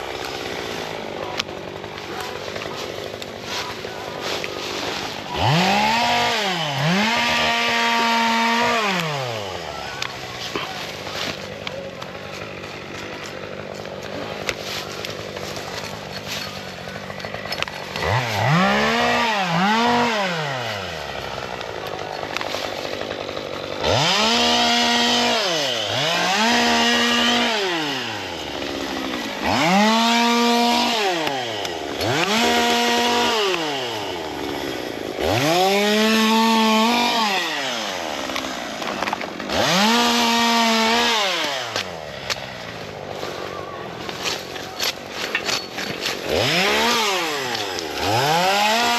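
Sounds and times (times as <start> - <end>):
chainsaw idling and revving: 0.0 - 48.9.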